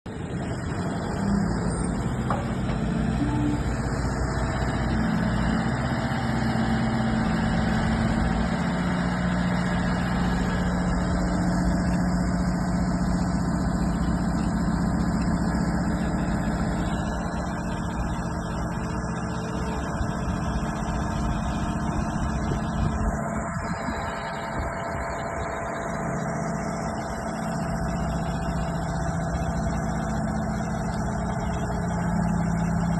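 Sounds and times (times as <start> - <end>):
heavy machine engine running: 0.1 - 32.9.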